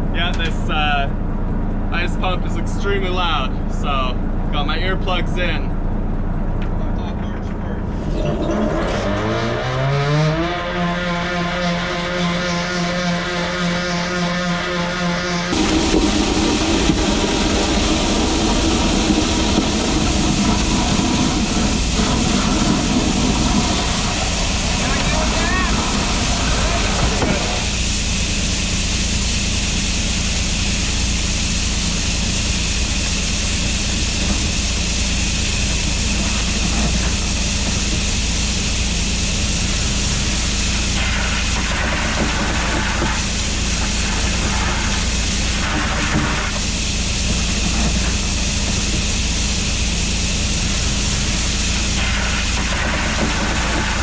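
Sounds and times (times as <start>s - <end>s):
ice pump running: 6.6s - 54.0s.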